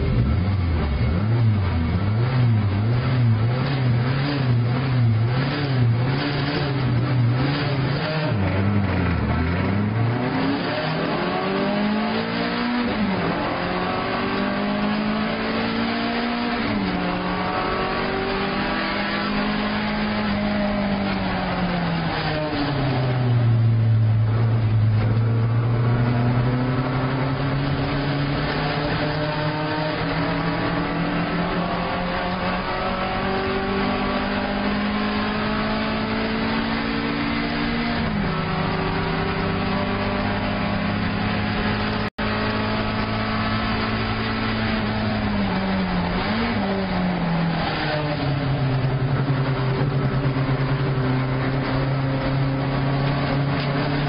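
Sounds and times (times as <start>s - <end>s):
racing car engine from inside cabin: 0.0s - 54.0s.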